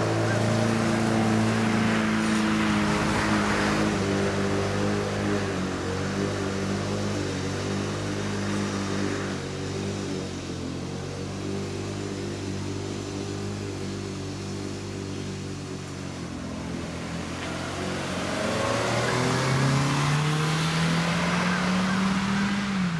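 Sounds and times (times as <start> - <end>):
car approaching: 0.0 - 22.9
lawn mower engine running: 0.0 - 22.9.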